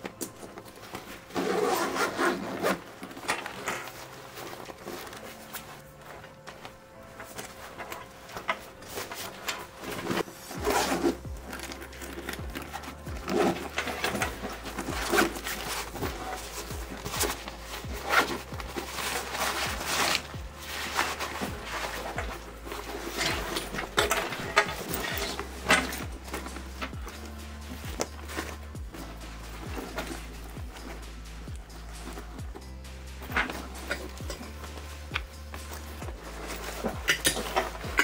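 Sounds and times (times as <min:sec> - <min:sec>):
nylon backpack rustling: 0:00.0 - 0:38.0
zipper pulls: 0:00.4 - 0:06.2, 0:07.2 - 0:38.0.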